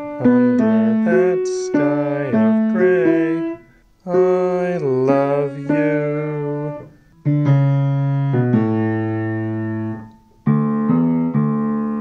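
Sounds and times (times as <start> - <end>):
piano chords ringing: 0.0 - 12.0.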